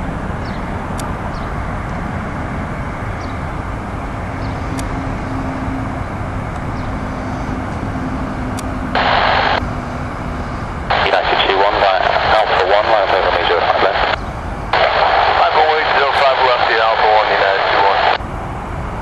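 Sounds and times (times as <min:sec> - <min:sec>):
distant jet engines: 0:00.0 - 0:19.0
faint steady hum: 0:01.8 - 0:18.2.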